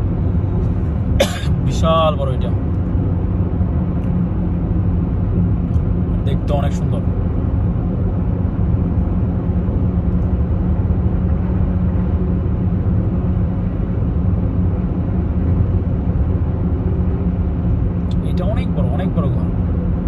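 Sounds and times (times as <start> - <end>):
car road and engine rumble: 0.0 - 20.0
constant low hum: 0.0 - 20.0.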